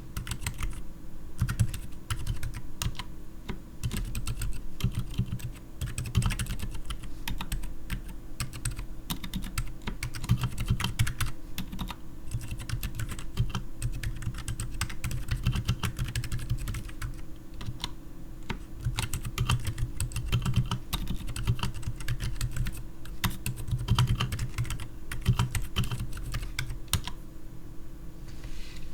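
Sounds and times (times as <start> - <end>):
fast typing on mechanical keyboard: 0.0 - 0.8, 1.4 - 3.1, 3.8 - 27.2.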